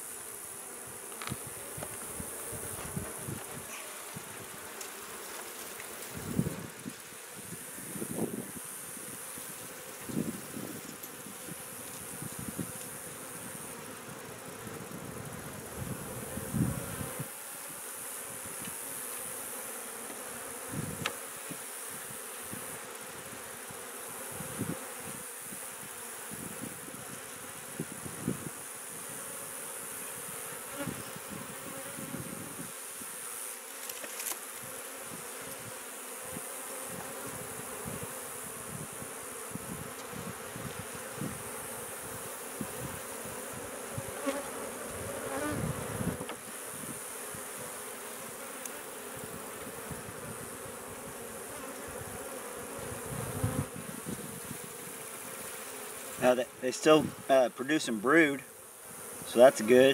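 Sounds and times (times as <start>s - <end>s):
honey bees buzzing: 0.0s - 59.9s.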